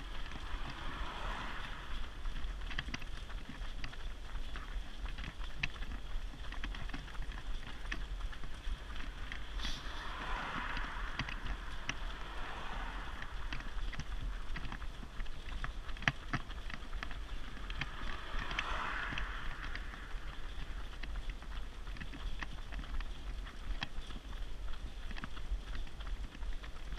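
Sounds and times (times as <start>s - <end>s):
buggy wheels rumbling: 0.0s - 26.9s
runners' footfalls on tarmac: 0.0s - 26.9s
wind on microphone: 0.0s - 26.9s.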